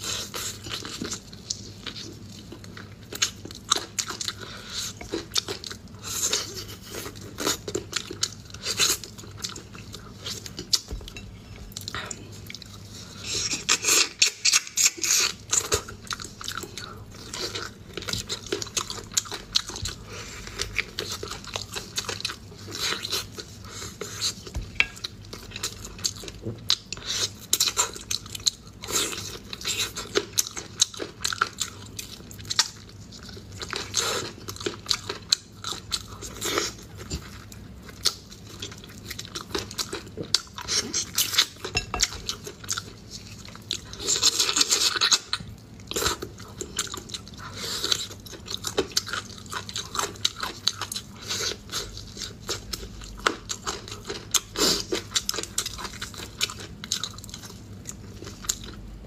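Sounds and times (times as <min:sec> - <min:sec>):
person chewing meat off bones: 0:00.0 - 0:59.0.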